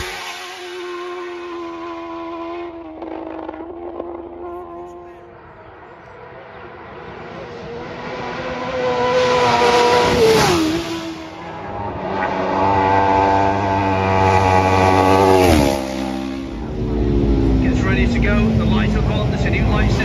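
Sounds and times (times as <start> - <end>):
motorcycles passing at speed: 0.0 - 20.0.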